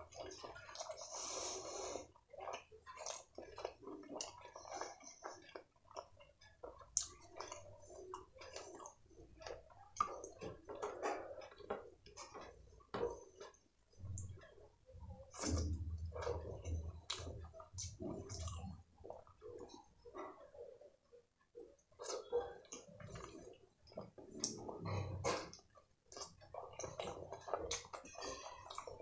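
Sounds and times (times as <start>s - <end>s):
chewing with mouth clicks: 0.0s - 29.0s.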